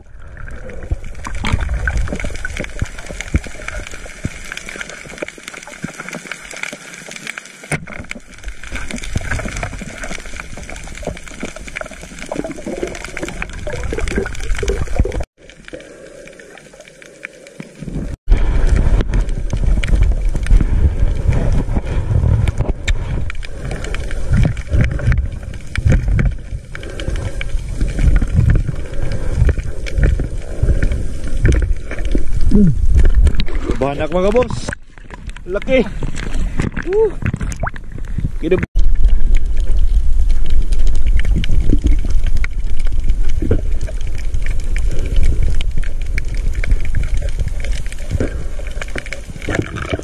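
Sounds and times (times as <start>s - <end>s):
underwater water rushing and gurgling: 0.0s - 50.0s.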